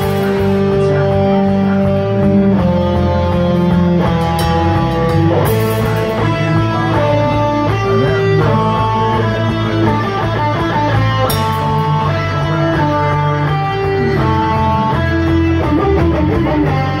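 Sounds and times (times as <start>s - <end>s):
electric guitar sustained notes: 0.0s - 17.0s
live rock band playing: 0.0s - 17.0s.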